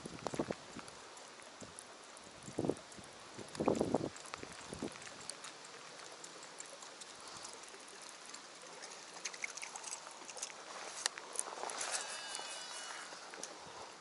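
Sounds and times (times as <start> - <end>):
rain falling on water: 0.0 - 11.9.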